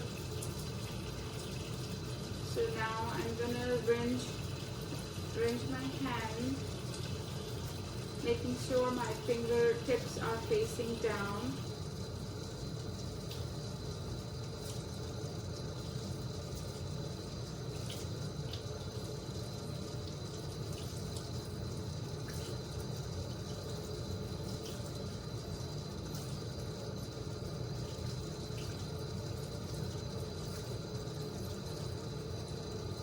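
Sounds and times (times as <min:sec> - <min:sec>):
water running from faucet: 0:00.0 - 0:33.0.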